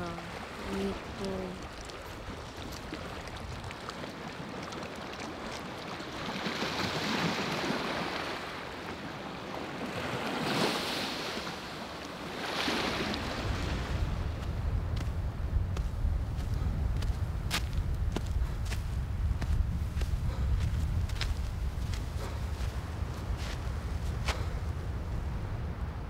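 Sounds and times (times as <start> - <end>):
sea waves washing onto beach: 0.0 - 25.9.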